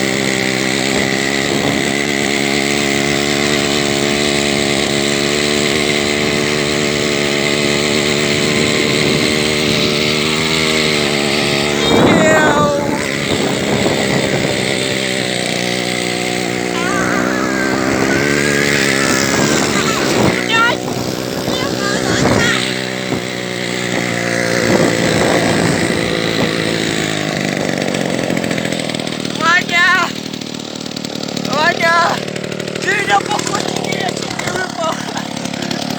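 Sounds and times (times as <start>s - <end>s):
two-stroke engine running: 0.0s - 35.9s.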